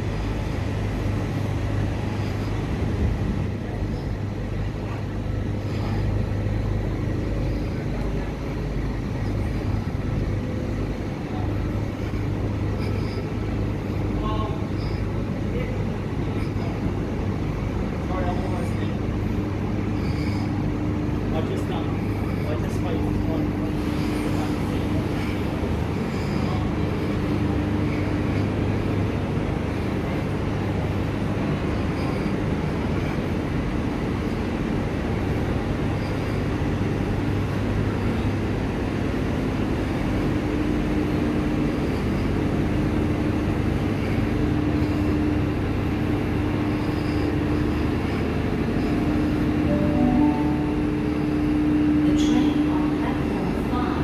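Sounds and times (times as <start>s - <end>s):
constant hum: 0.0s - 54.0s
train rumbling on track: 0.0s - 54.0s.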